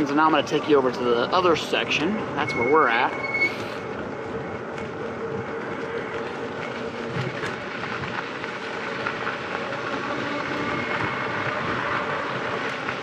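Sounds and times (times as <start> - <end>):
slow vehicle rolling: 0.0 - 13.0.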